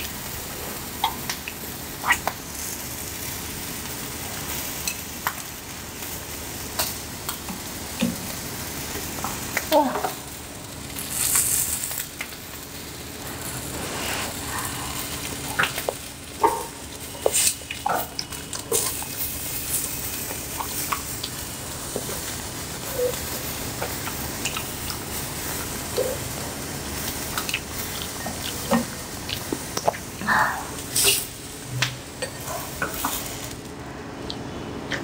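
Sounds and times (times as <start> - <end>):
meat sizzling on a grill: 0.0 - 33.8.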